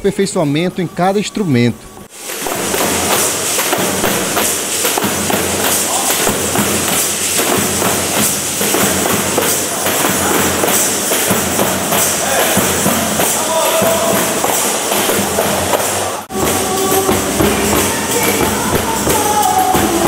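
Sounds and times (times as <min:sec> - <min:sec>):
drum hits: 0:02.1 - 0:20.0
tambourine jingle shakes: 0:02.1 - 0:20.0.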